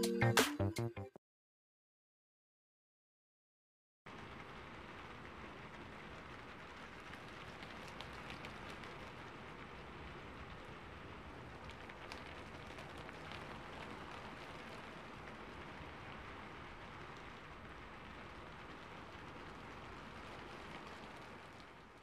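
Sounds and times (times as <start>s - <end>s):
steady quiet rain: 4.1s - 22.0s.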